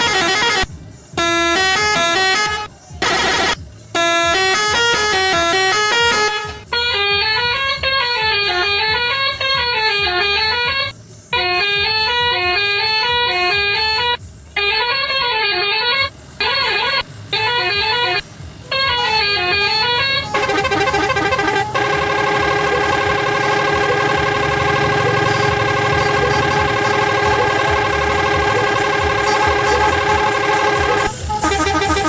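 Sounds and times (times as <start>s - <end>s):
multi-tone horn melody: 0.0s - 32.0s.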